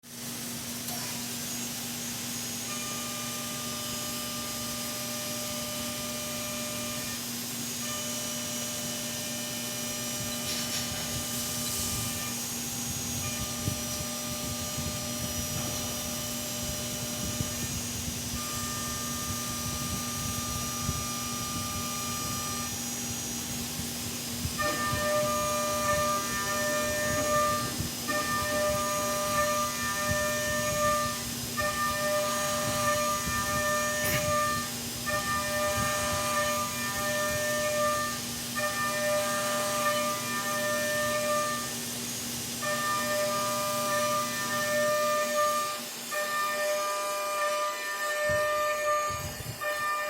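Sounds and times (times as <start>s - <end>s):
milling machine running: 0.1s - 50.0s.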